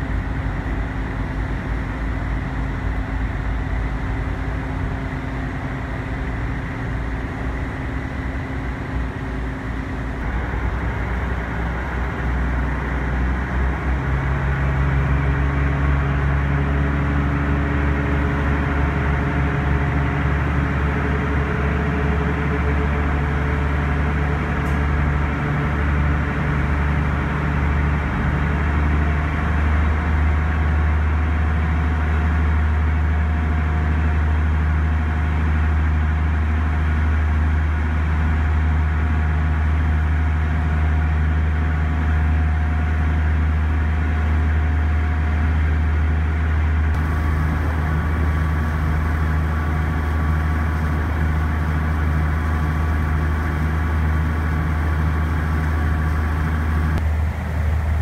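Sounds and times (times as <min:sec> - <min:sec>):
churning wake wash: 0:00.0 - 0:58.0
diesel engine drone: 0:00.0 - 0:58.0.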